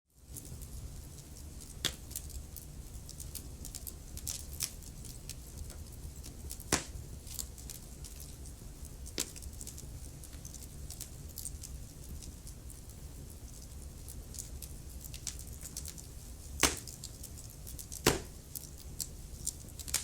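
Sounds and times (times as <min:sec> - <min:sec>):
wood fire crackling: 0:00.2 - 0:20.0
fire pops: 0:00.3 - 0:20.0.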